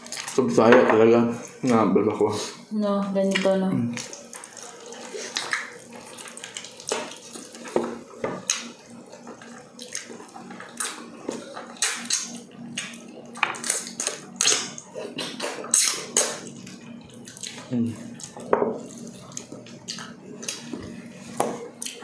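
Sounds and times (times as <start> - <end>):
wet chewing: 3.2 - 21.0, 21.6 - 22.0.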